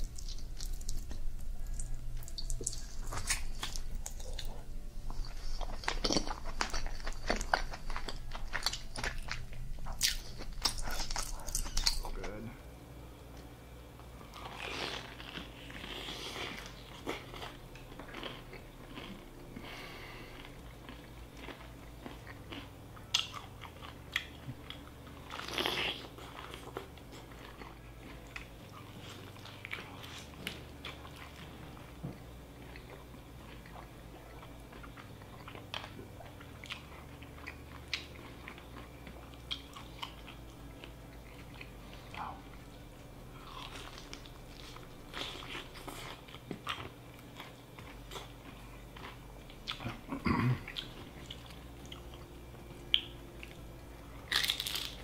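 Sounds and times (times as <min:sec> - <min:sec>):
crunchy chewing: 0:00.0 - 0:12.4, 0:13.3 - 0:55.0
faint low hum: 0:00.0 - 0:55.0.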